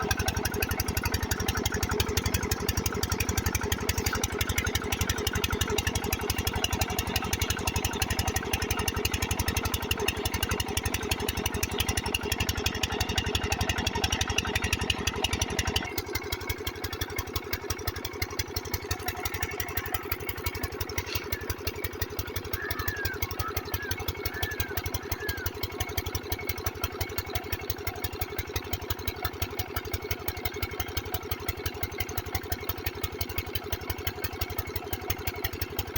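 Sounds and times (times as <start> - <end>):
water pump engine running: 0.0 - 35.9.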